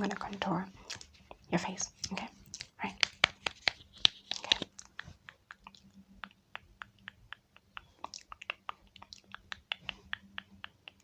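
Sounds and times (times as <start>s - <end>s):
crisp clicks and taps: 0.1s - 11.0s.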